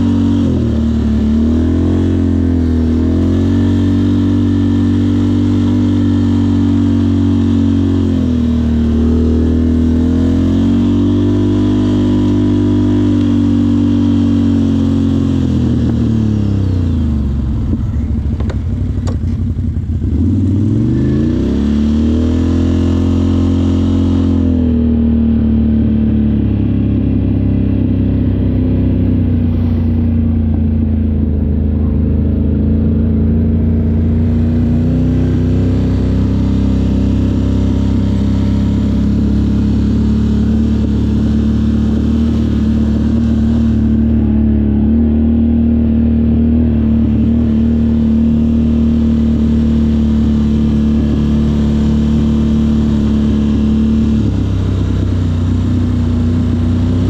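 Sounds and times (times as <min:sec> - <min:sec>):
vehicle engine running loudly: 0:00.0 - 0:57.0.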